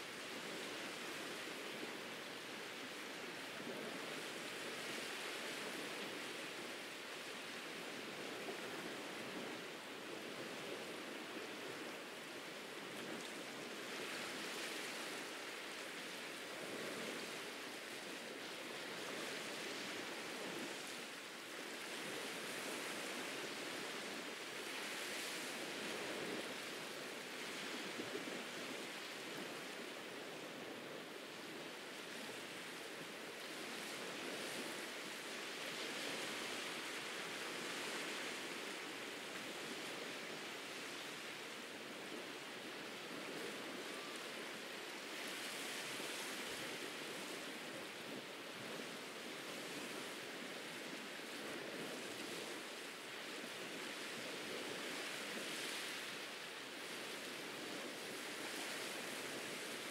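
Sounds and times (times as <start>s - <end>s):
small waves washing onto beach: 0.0s - 59.9s.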